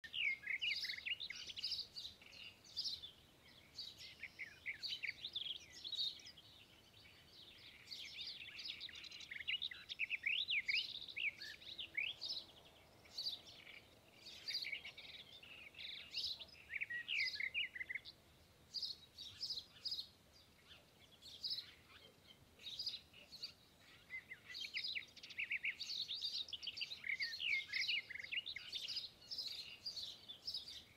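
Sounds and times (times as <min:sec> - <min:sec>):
songbirds chirping and singing: 0:00.0 - 0:30.9.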